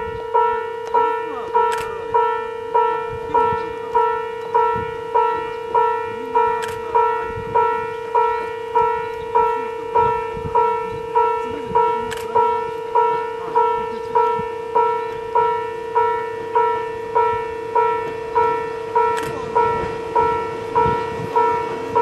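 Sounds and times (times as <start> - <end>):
level crossing bell clanging: 0.0 - 22.0.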